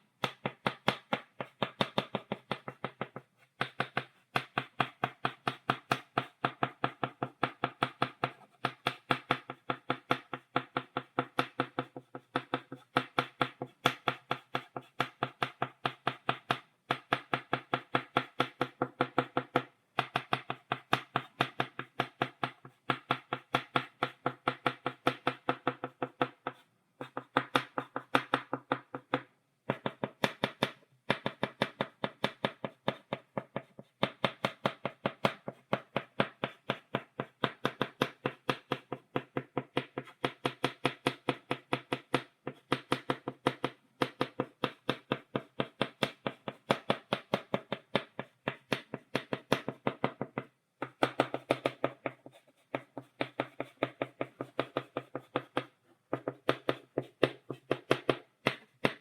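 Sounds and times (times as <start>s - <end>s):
chalk tapping on blackboard: 0.0s - 59.0s.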